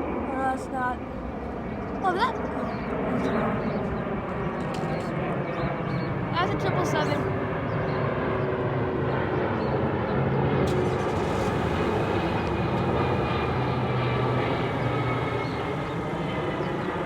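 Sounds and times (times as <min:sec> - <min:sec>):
jet engine rush with whine: 0:00.0 - 0:17.0.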